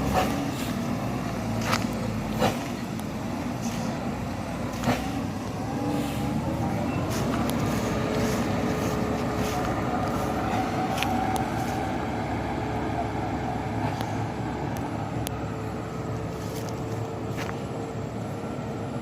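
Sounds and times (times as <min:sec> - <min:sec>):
dump truck engine and tyres passing: 0:00.0 - 0:19.0.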